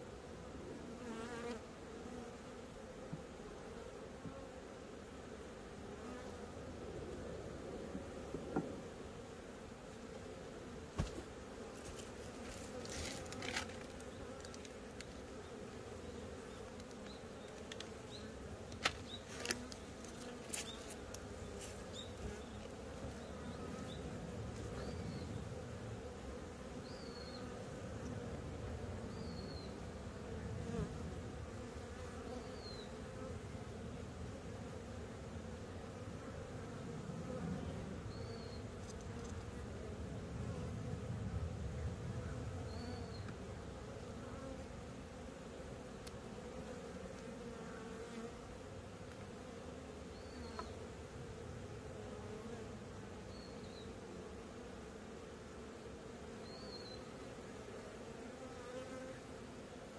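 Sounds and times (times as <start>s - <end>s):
honeybees buzzing: 0.0s - 59.9s.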